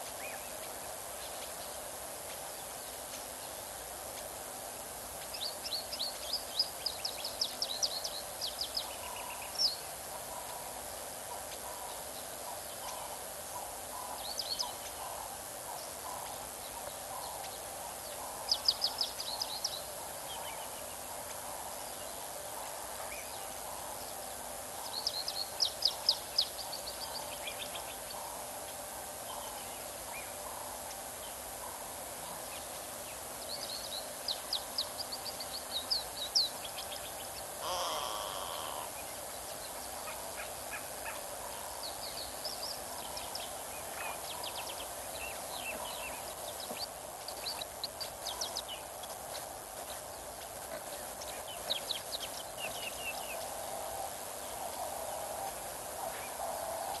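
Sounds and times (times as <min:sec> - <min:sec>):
outdoor hiss: 0:00.0 - 0:57.0.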